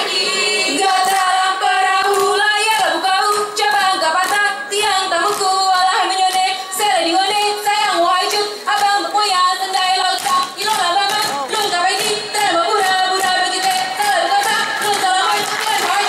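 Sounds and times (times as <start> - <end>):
girls chanting in unison: 0.0 - 7.8, 9.7 - 16.0
hand claps: 0.9 - 1.4, 2.0 - 6.6, 8.2 - 16.0.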